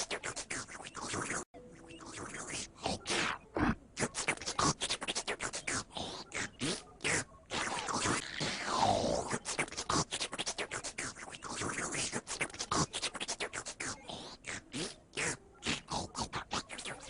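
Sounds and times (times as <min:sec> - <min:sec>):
beatboxing clicks and scratches: 0:00.0 - 0:17.0.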